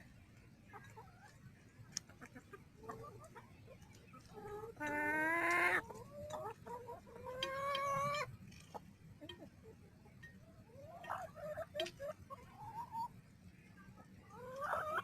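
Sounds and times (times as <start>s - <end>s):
chickens clucking softly: 0.1s - 15.0s.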